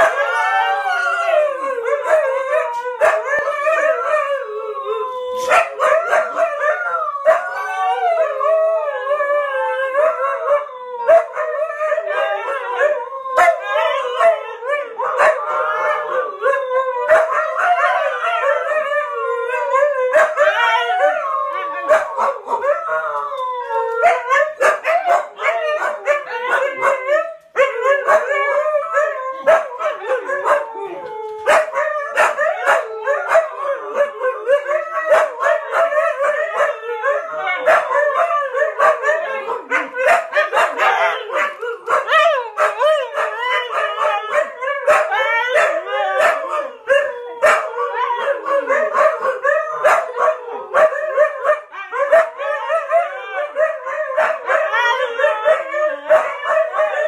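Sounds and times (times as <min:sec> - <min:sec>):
huskies howling: 0:00.0 - 0:57.0.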